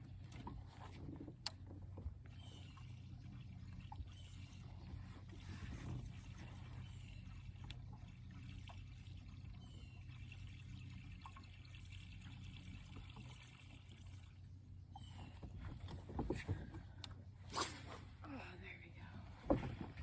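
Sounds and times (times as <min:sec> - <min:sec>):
water lapping against boat hull: 0:00.0 - 0:18.2, 0:19.0 - 0:20.0
low steady hum: 0:00.0 - 0:20.0.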